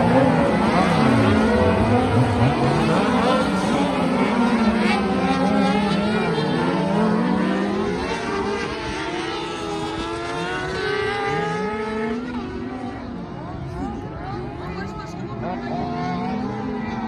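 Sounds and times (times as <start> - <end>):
off-road buggy engines racing: 0.0 - 17.0.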